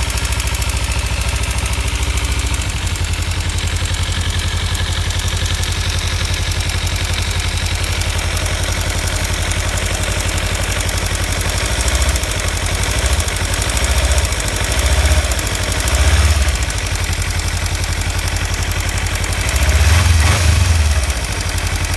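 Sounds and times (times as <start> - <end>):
motorcycle engine idling: 0.0 - 21.9
rapid ticking rattle: 0.0 - 21.9.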